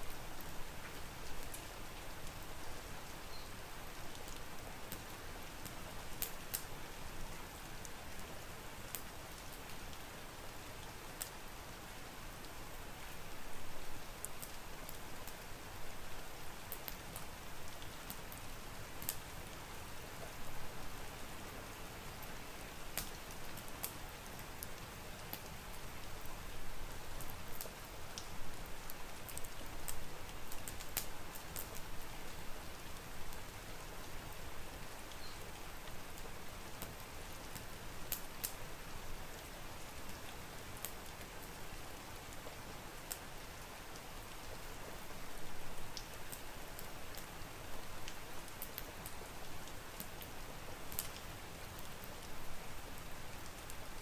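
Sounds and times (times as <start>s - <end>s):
log fire crackling: 0.0s - 11.6s, 12.3s - 54.0s
steady rain: 0.0s - 54.0s.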